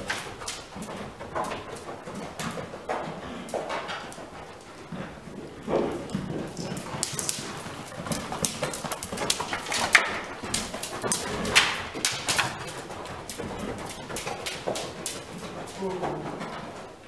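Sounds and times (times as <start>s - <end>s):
horse hooves on sand: 0.0s - 17.0s.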